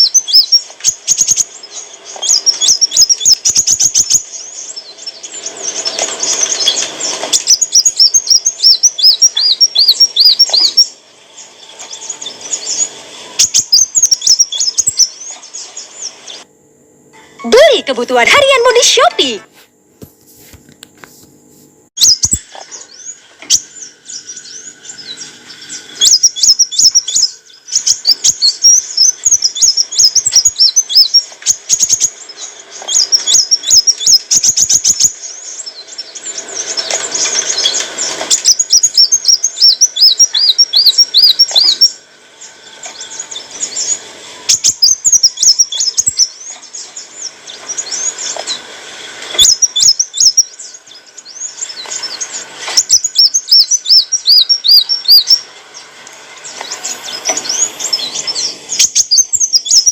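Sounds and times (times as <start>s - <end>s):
sunbird singing: 0.0s - 16.5s, 22.0s - 59.9s.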